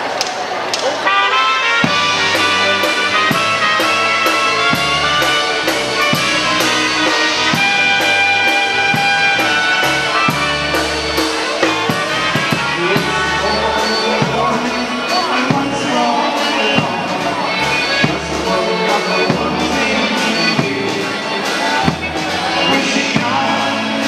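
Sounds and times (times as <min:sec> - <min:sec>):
polka band playing: 0:00.7 - 0:24.0.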